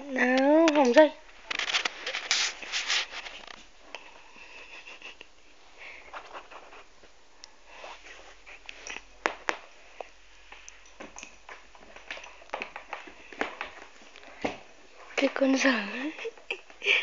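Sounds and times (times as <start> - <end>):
cat rustling and scuffling: 0.5 - 15.6.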